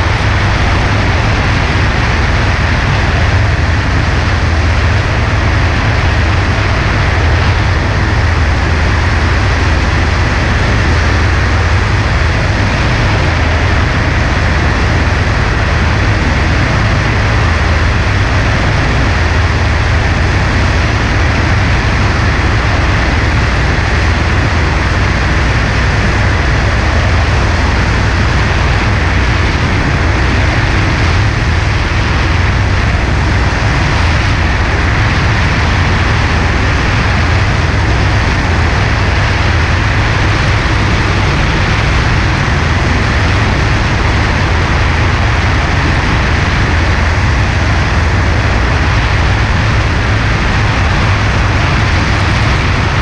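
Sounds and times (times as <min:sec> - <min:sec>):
light airplane engine drone: 0:00.0 - 0:53.0
rushing air: 0:00.0 - 0:53.0.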